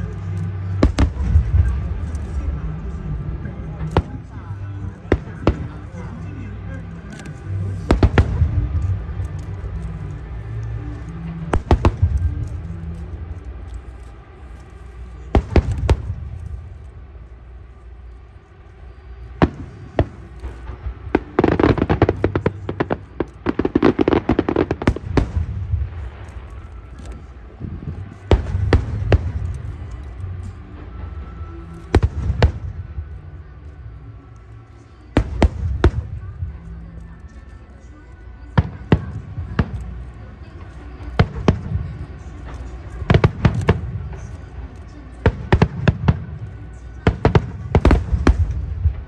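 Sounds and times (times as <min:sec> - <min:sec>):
fireworks crackling: 0:00.0 - 0:49.0
low rumble: 0:00.0 - 0:49.0.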